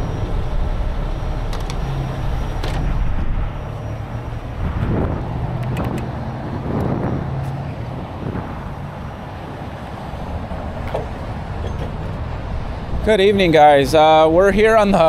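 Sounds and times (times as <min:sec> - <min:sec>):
freeway traffic rushing past: 0:00.0 - 0:15.0
low engine hum: 0:00.0 - 0:15.0.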